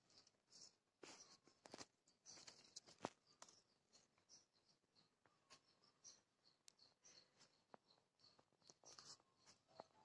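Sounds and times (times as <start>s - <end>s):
faint high chirps: 0.0s - 10.0s.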